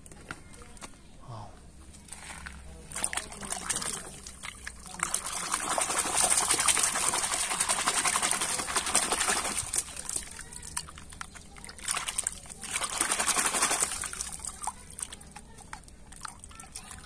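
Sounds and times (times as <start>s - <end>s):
water splashing in a plastic bucket: 2.2s - 17.0s.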